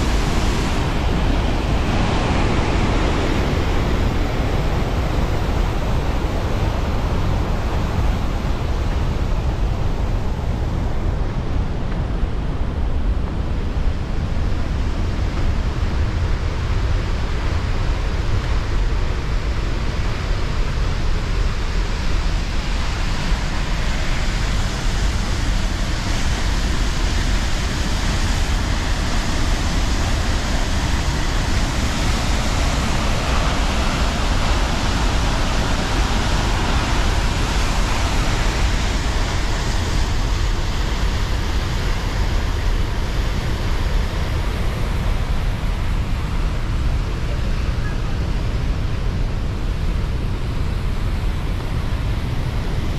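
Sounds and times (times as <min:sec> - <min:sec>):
waterfall rushing: 0:00.0 - 0:10.8, 0:20.8 - 0:52.9.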